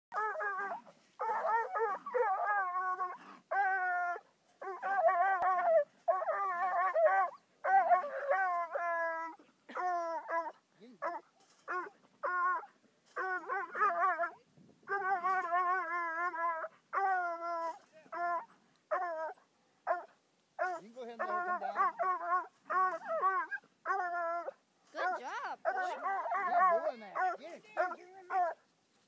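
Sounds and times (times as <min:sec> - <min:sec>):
dog baying and yelping: 0:00.1 - 0:28.6.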